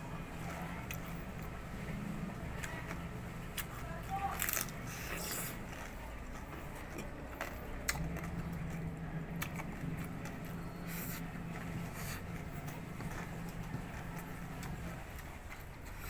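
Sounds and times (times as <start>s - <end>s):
crunching and chewing: 0.1s - 16.0s.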